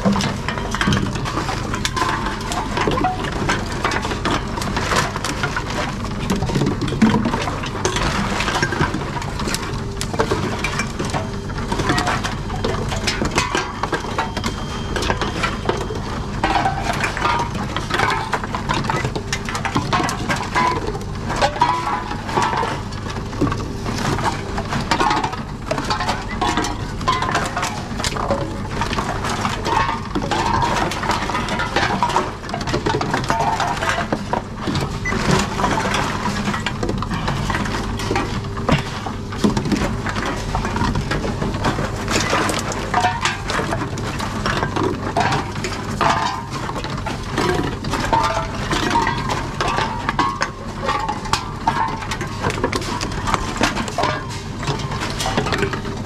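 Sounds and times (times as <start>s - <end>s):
cans and bottles clinking: 0.0s - 56.0s.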